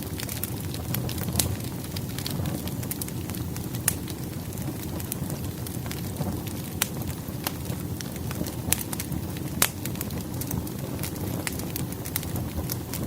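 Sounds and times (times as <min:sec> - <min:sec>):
low rumble of burning logs: 0:00.0 - 0:13.0
wood fire pops and snaps: 0:00.0 - 0:13.0.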